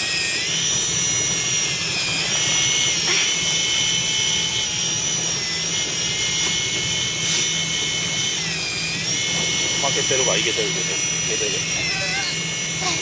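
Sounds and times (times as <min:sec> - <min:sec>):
electric fishing reel whine: 0:00.0 - 0:13.0.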